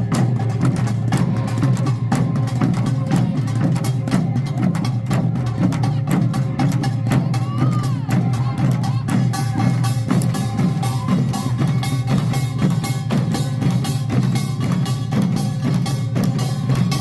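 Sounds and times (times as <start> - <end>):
percussion band drums and gongs: 0.0 - 17.0.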